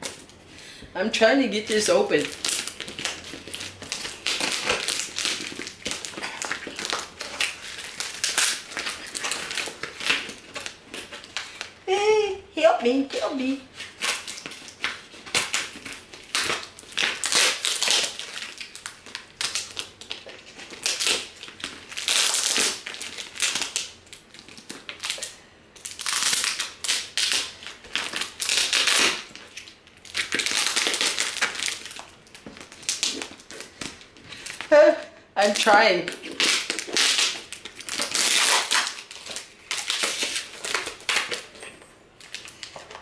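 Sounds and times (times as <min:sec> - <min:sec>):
packing tape crackling and tearing: 0:01.6 - 0:11.8, 0:13.1 - 0:34.8, 0:35.4 - 0:43.0.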